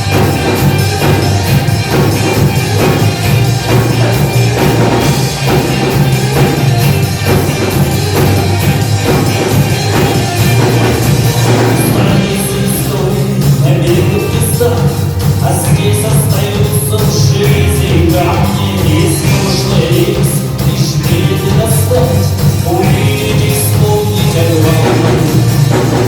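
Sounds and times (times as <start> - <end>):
live band playing loudly: 0.0 - 26.0
steady bass line: 0.0 - 26.0.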